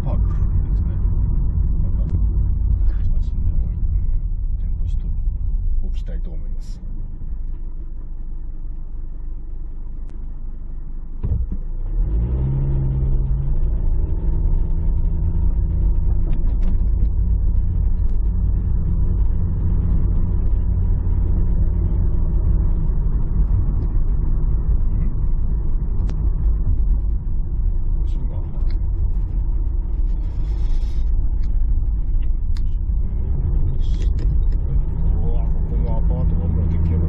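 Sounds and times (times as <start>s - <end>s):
engine and tyres rumbling: 0.0s - 37.0s.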